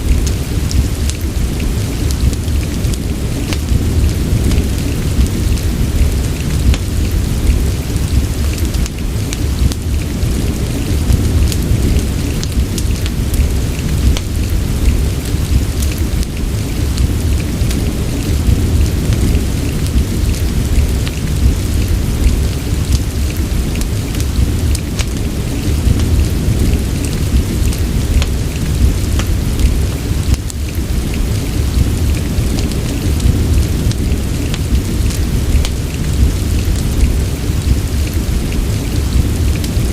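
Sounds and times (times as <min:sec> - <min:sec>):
deep low rumble: 0:00.0 - 0:39.9
steady rain: 0:00.0 - 0:39.9.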